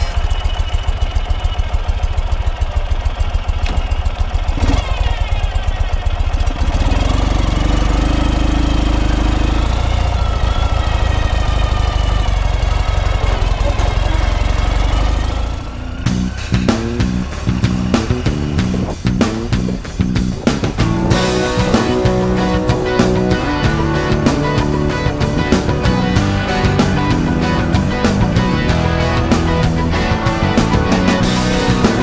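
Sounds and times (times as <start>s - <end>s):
motorcycle engine idling and riding off: 0.0s - 32.0s.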